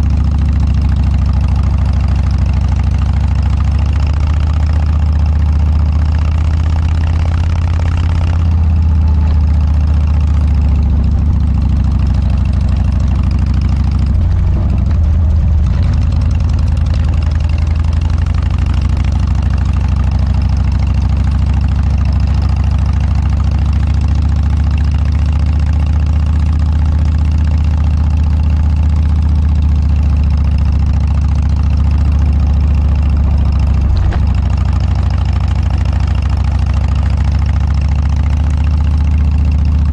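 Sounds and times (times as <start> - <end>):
motorcycle exhaust low note: 0.0 - 39.9.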